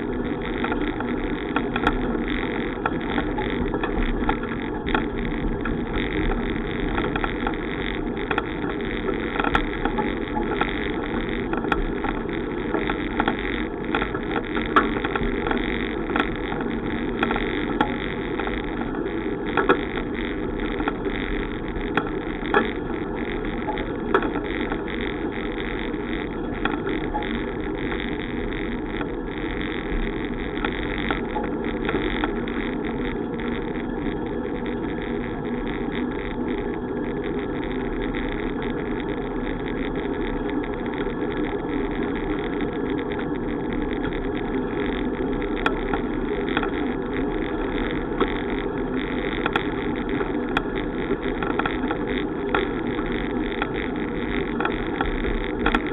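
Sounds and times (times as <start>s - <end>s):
bicycle tyre noise: 0.0s - 55.9s
faint clicks: 0.0s - 55.9s.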